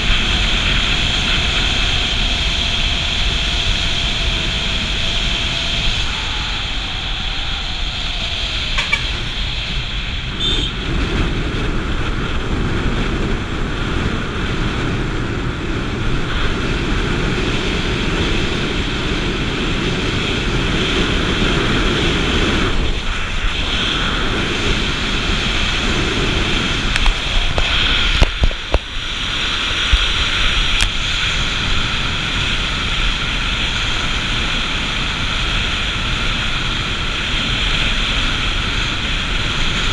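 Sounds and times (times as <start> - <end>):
motorbike engine and tyre noise: 0.0 - 39.9
wind rush over microphone: 0.0 - 39.9.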